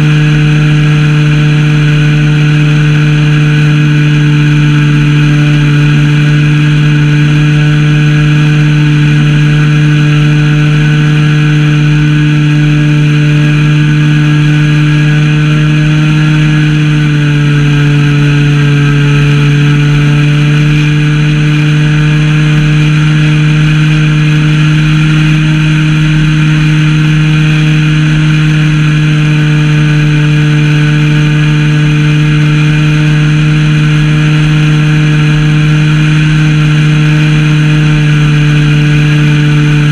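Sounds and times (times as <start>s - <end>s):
model plane engine running: 0.0s - 39.9s.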